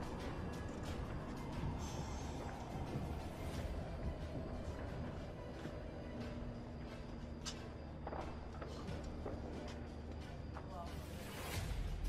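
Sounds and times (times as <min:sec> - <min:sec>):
low rumble of night ambience: 0:00.0 - 0:12.0.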